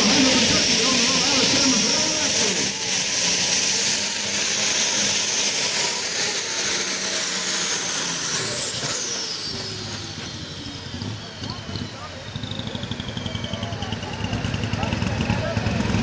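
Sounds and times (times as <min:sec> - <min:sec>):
engine with high-pitched whine: 0:00.0 - 0:16.0.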